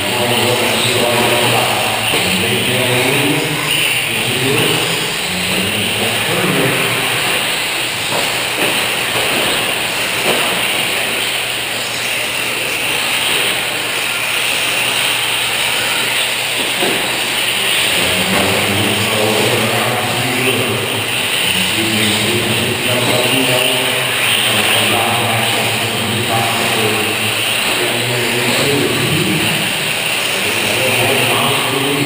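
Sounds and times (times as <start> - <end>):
toy truck motors whirring: 0.0 - 32.0.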